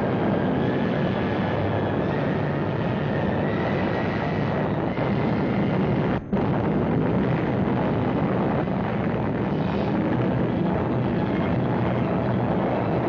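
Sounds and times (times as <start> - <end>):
explosion rumble: 0.0 - 13.0.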